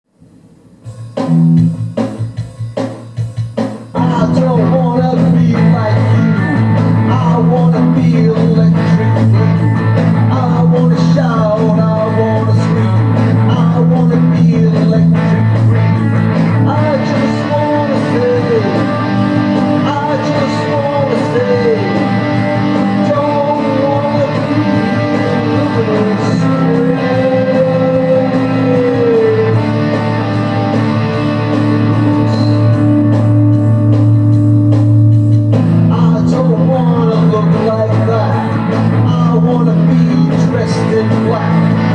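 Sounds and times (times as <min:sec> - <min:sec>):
electric guitar: 0:00.2 - 0:41.9
rock band playing: 0:00.8 - 0:41.9
bass guitar holding notes: 0:04.0 - 0:41.9.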